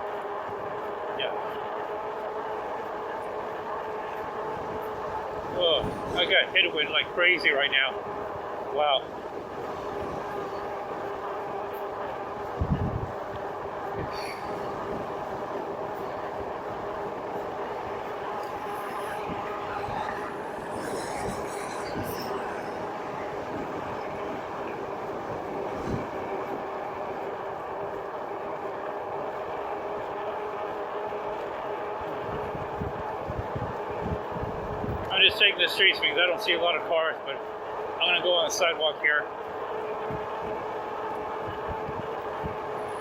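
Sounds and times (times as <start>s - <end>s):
wind buffeting microphone: 0.3s - 35.4s, 39.3s - 43.0s.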